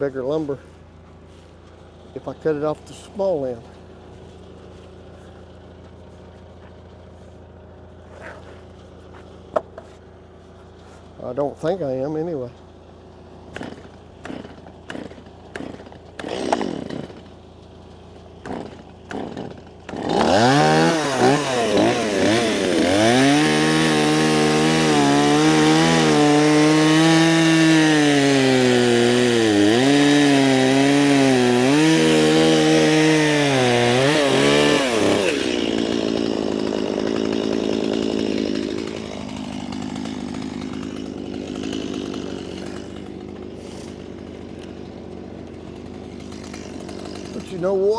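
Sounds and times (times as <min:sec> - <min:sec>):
chainsaw cutting log: 0:00.0 - 0:47.9.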